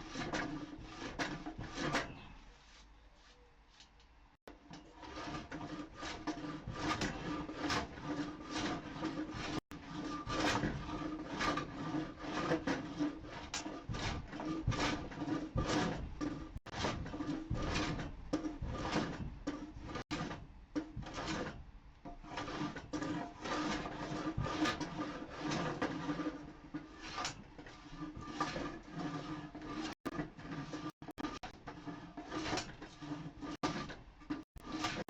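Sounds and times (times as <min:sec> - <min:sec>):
hand plane shaving wood: 0:00.0 - 0:02.8, 0:04.6 - 0:21.6, 0:22.2 - 0:35.0.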